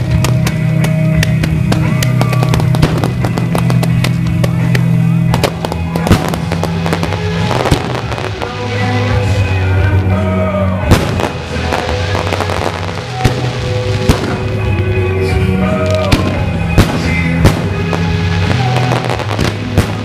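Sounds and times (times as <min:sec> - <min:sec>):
fireworks cracking and banging: 0:00.0 - 0:20.0
live band music: 0:00.0 - 0:20.0.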